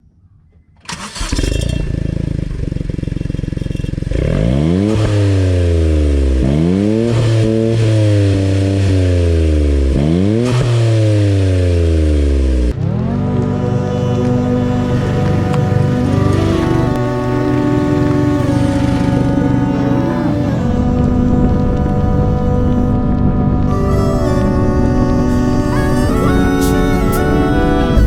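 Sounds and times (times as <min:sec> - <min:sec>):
car engine revving: 0:00.9 - 0:28.0.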